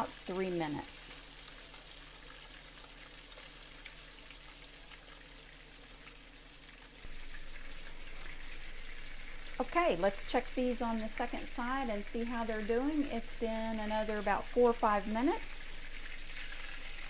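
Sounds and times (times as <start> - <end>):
steaks sizzling in oil: 0.0 - 17.0.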